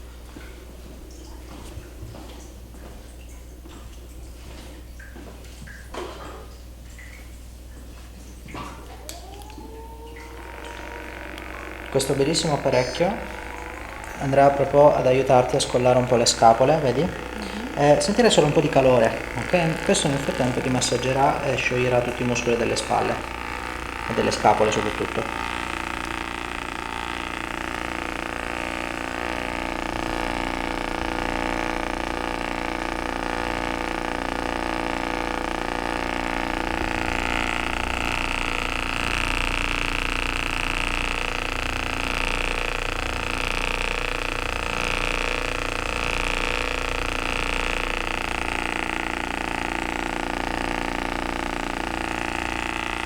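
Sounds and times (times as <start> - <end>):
massage device motor hum: 0.0 - 6.5, 7.9 - 53.0.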